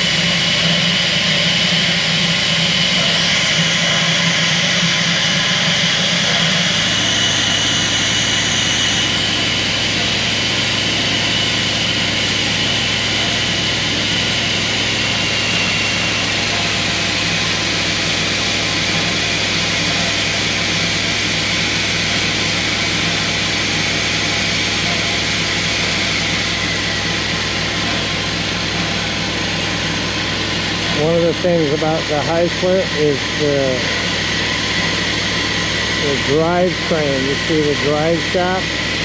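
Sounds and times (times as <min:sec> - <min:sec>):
faint high whine: 0:00.0 - 0:39.0
water pump running: 0:00.0 - 0:39.0.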